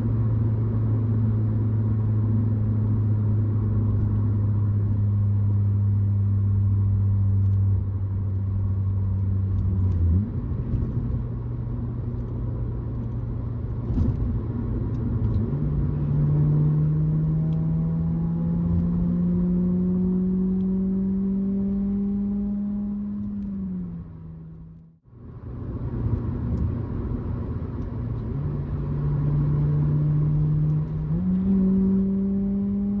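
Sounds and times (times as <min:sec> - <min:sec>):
car exhaust while driving: 0:00.0 - 0:33.0.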